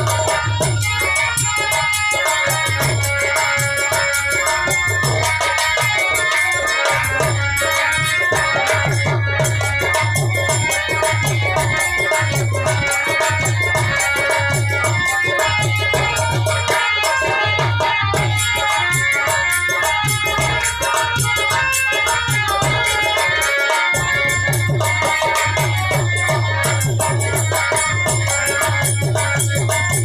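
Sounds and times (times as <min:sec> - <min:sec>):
hand drum beat: 0:00.0 - 0:30.0
harmonium melody: 0:00.0 - 0:30.0.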